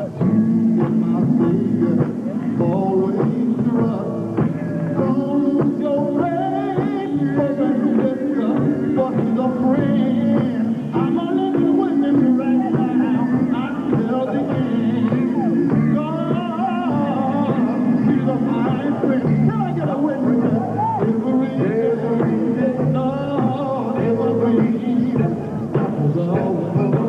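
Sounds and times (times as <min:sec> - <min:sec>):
backing band playing: 0:00.0 - 0:27.0
voices singing in harmony: 0:00.0 - 0:27.0.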